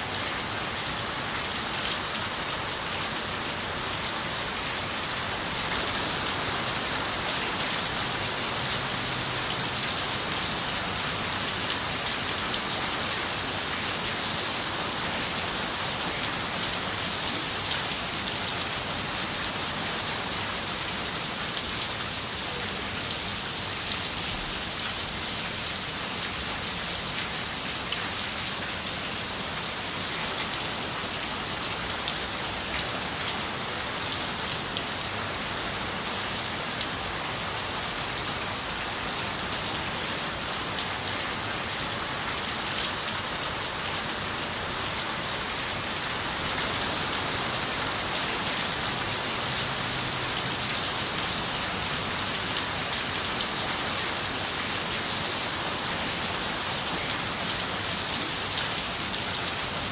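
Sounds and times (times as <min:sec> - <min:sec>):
rain on a window: 0:04.8 - 0:59.9.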